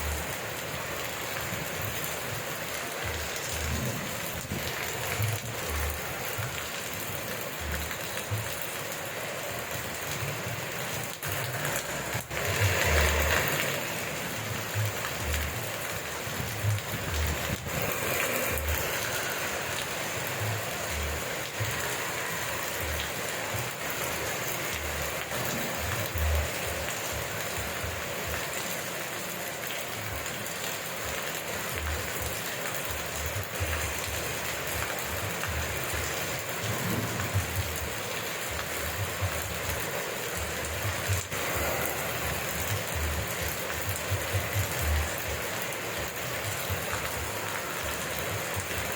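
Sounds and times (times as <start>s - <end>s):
steady rain hissing: 0.0s - 48.9s.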